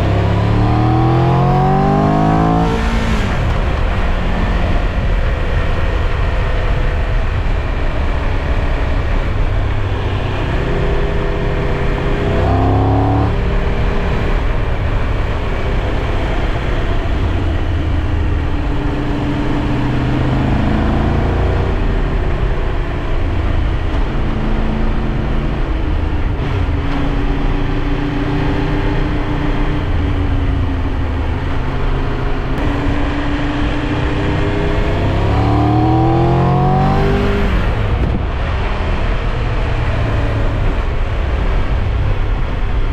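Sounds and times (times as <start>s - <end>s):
motorcycle engine revving: 0.0s - 42.6s.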